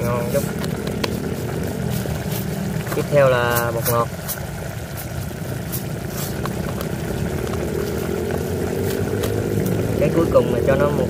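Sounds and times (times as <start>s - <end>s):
gas burner rumble: 0.0s - 11.0s
sauce bubbling with small pops: 0.0s - 11.0s.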